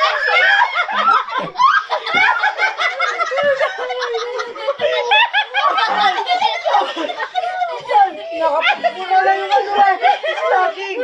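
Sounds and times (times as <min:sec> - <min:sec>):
people laughing loudly: 0:00.0 - 0:11.0.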